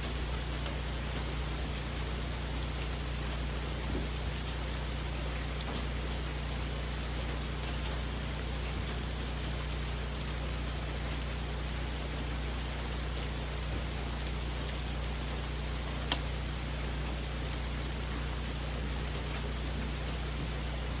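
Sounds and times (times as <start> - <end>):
rain on foliage: 0.0 - 21.0.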